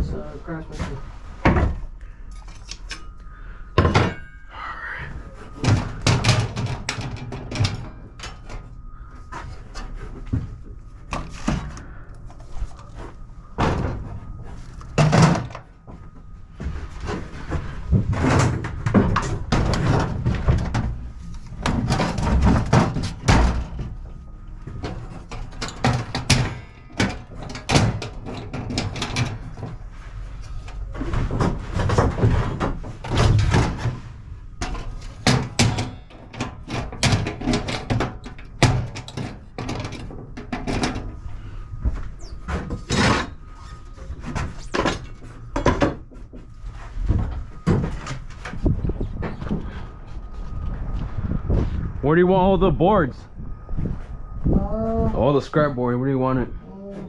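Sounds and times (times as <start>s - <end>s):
tools and wooden boards clattering: 3.8s - 4.4s, 5.4s - 50.5s.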